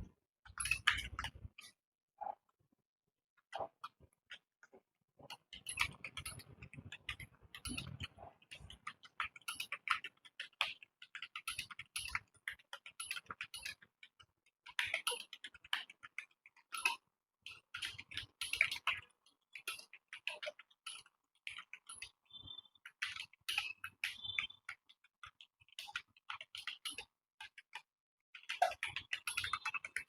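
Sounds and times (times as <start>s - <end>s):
rapid keyboard typing: 0.0s - 2.4s, 3.6s - 30.0s.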